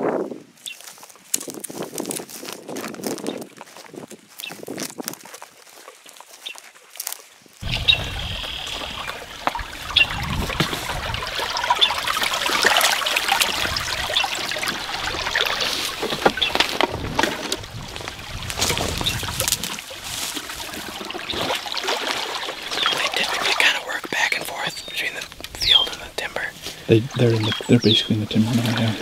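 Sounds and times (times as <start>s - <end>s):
footsteps through dry brush: 0.1s - 12.1s, 12.9s - 26.9s.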